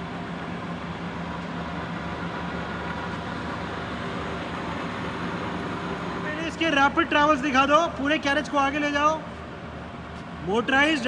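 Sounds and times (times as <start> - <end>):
lathe running with mechanical hum: 0.0 - 11.0.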